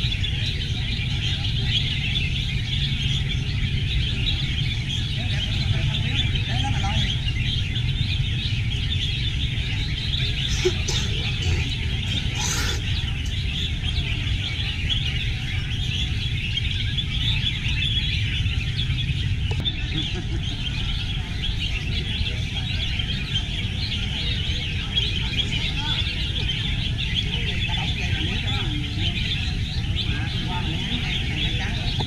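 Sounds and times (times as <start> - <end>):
many birds chirping and singing: 0.0 - 32.0.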